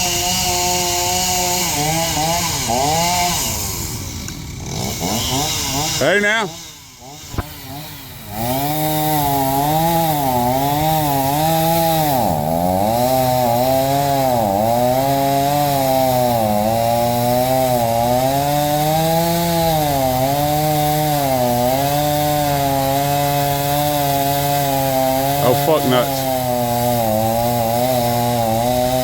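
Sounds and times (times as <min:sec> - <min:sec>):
chainsaw cutting into wood: 0:00.0 - 0:29.0.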